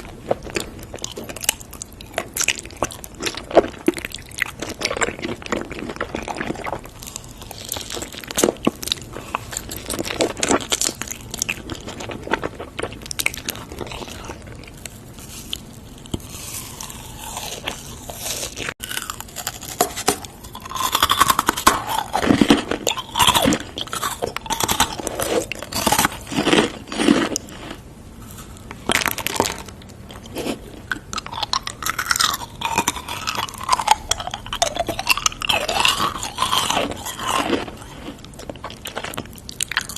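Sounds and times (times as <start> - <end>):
crunching and chewing food: 0.0 - 39.9.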